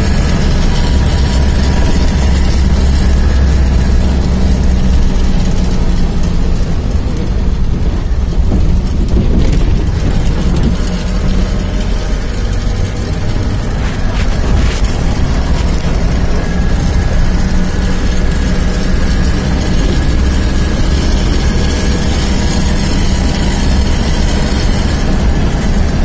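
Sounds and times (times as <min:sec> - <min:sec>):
road noise: 0:00.0 - 0:26.0
vehicle engine running: 0:00.0 - 0:26.0.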